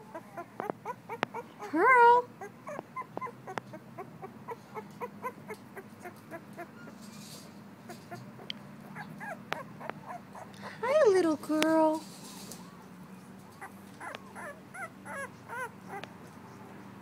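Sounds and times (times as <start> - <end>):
puppy squeaking and whimpering: 0.0 - 10.9, 12.6 - 16.9.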